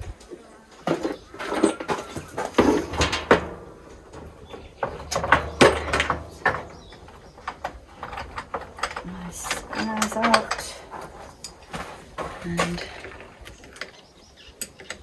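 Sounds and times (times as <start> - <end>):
tools knocking and clunking: 0.0 - 15.0.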